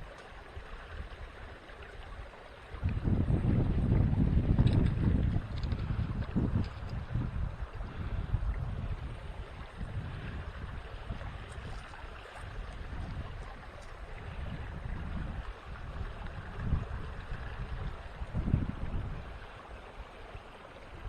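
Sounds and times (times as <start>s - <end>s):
wind buffeting microphone: 0.0s - 20.2s
creek water running: 0.0s - 21.0s.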